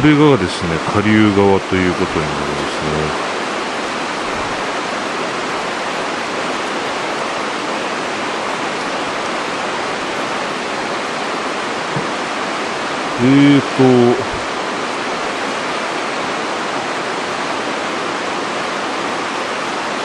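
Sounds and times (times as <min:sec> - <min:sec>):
fast-flowing river water: 0:00.0 - 0:20.0.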